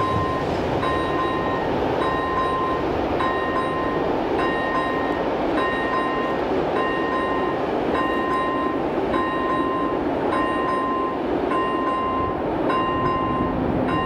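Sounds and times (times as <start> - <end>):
freight train rumbling: 0.0 - 14.0
level crossing warning bell: 0.0 - 14.0.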